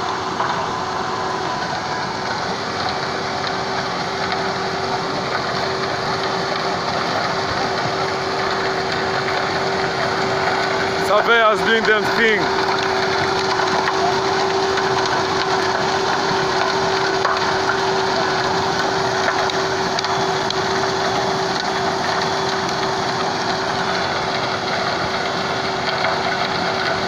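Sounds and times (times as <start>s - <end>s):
grinding crushing noise: 0.0s - 27.0s
machinery engine hum: 0.0s - 27.0s.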